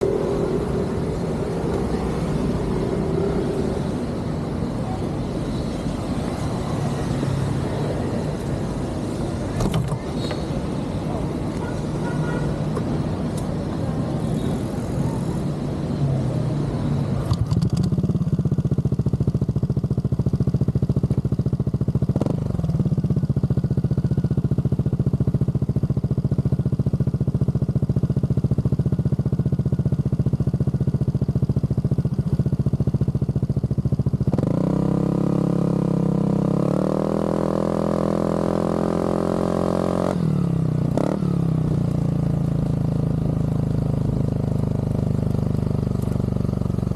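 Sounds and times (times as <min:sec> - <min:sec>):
scooter engine idling and revving: 0:00.0 - 0:46.9.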